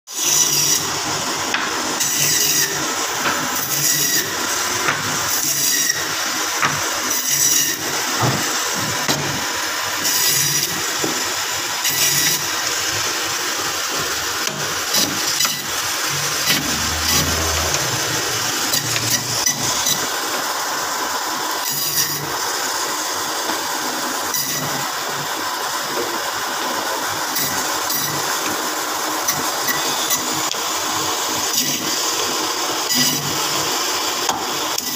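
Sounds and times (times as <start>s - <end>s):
electric band saw cutting meat: 0.1s - 34.9s.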